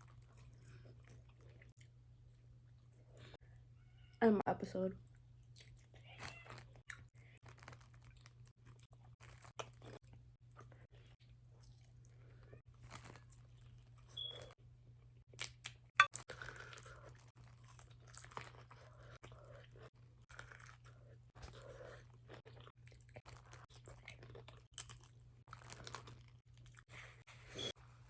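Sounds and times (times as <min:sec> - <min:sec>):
wet chewing and crunching: 0:00.0 - 0:03.4, 0:05.0 - 0:27.4.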